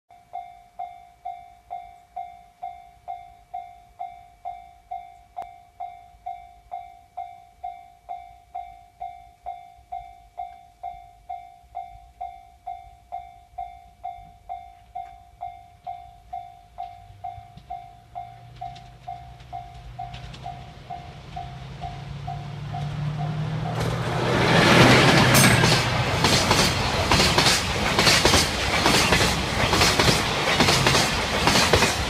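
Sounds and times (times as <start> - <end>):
level crossing warning bell: 0.1 - 32.0.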